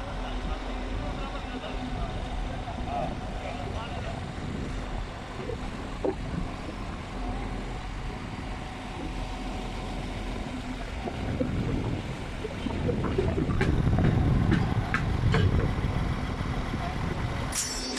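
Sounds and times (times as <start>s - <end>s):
engine rumbling: 0.0s - 17.9s.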